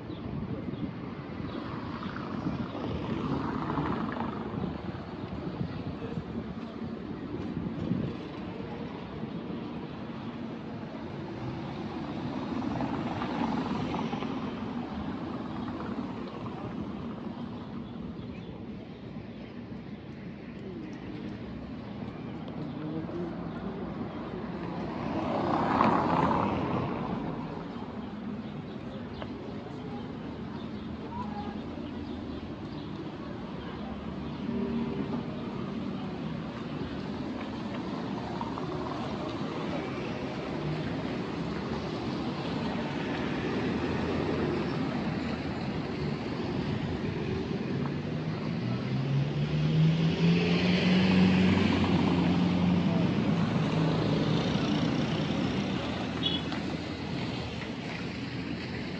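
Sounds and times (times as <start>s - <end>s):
distant traffic rumble: 0.0s - 58.9s
voices: 1.5s - 49.2s.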